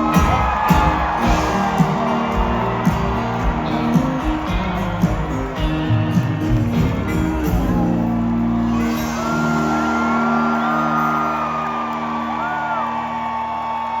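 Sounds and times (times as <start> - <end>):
audience whooping and whistling: 0.0 - 6.2, 6.8 - 14.0
country band playing: 0.0 - 14.0.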